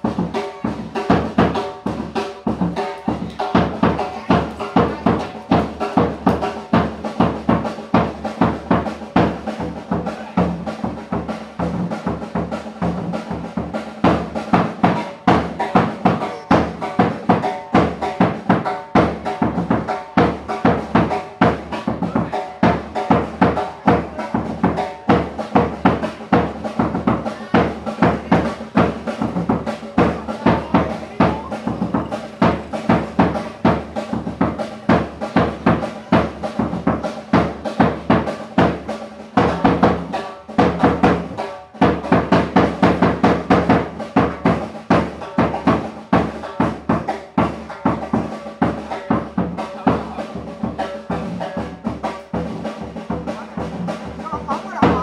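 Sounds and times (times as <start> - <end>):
drum kit beat: 0.0 - 55.0.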